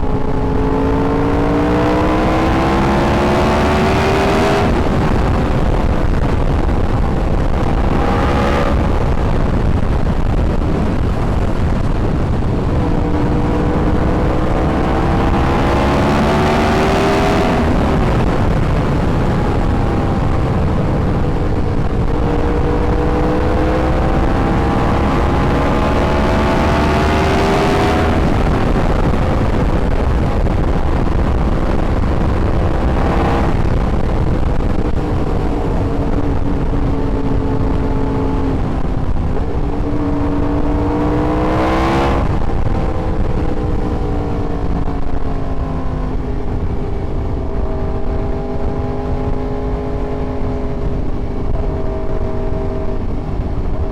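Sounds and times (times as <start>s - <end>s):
low rush of noise: 0.0s - 53.9s
motorcycle engine revving: 0.0s - 53.9s.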